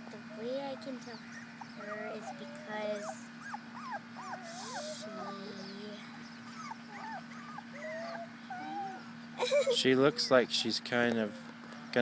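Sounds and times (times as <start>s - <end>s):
puppies whimpering: 0.0s - 10.8s.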